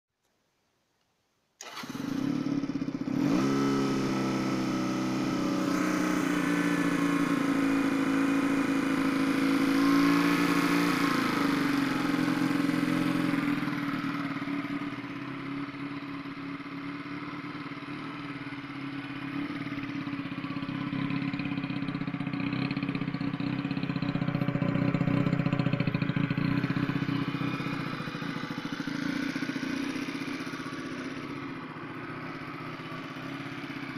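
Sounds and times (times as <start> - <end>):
motorcycle engine starting and idling: 1.6 - 33.9.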